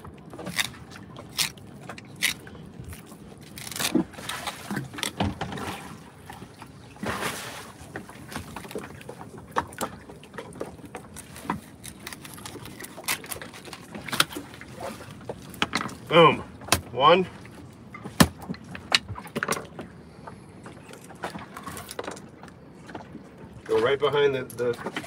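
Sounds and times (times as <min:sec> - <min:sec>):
water around a boat: 0:00.0 - 0:25.0.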